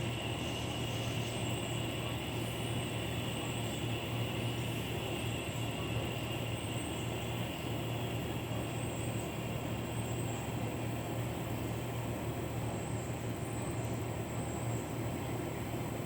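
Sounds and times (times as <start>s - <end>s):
cicadas singing: 0.0s - 15.5s.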